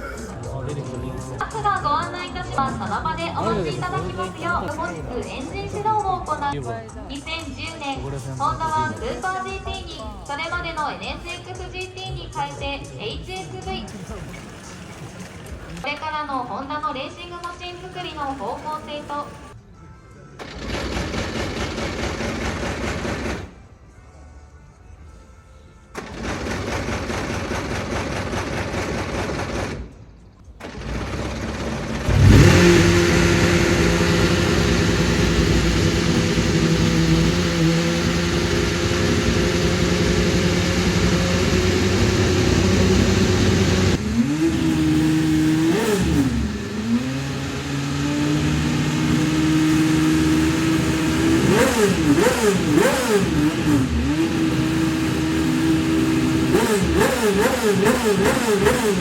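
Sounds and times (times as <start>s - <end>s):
race car engine starting and revving: 0.0s - 6.6s, 7.2s - 16.0s, 20.4s - 23.6s, 25.9s - 30.0s, 30.6s - 59.0s.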